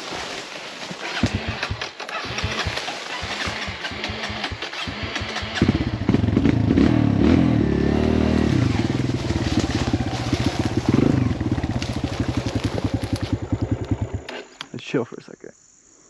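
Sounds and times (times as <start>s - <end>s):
dirt bike engine running: 0.8s - 14.4s.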